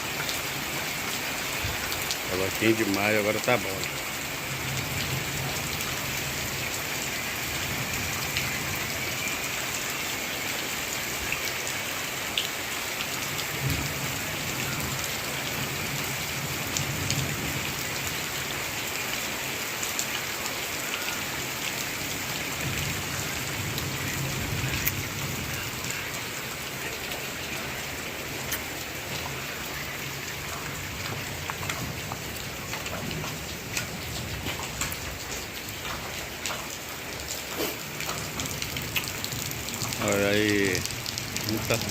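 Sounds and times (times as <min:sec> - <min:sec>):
hiss of rain: 0:00.0 - 0:41.9.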